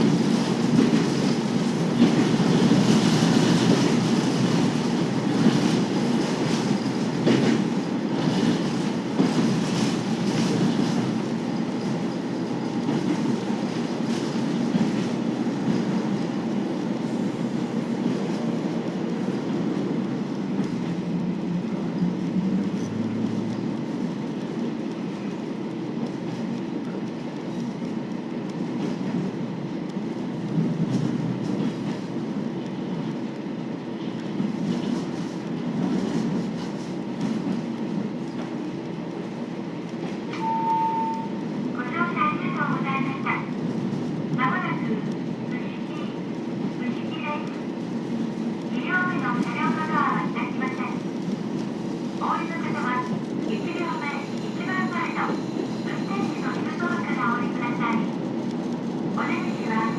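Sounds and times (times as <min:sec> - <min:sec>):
diesel railcar running: 0:00.0 - 0:59.9.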